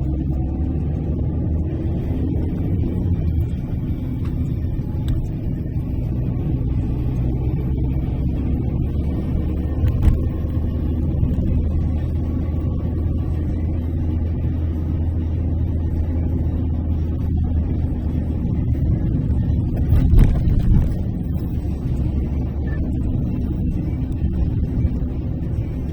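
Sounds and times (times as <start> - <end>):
car cabin engine and tyre rumble: 0.0 - 25.9.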